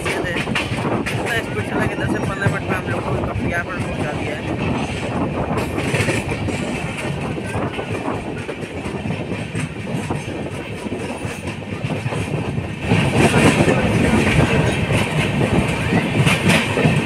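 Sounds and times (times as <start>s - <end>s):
train rumble on board: 0.0s - 17.0s.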